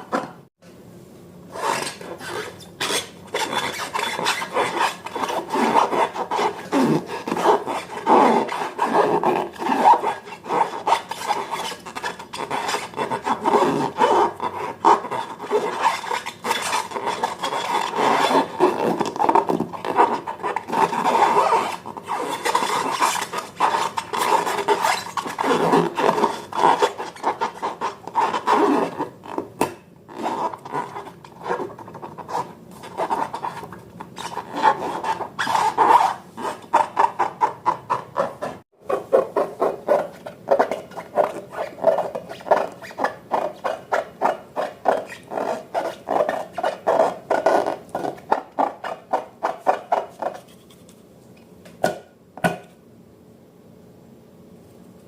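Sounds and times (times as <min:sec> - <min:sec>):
slime rubbing and scraping: 0:01.5 - 0:50.9.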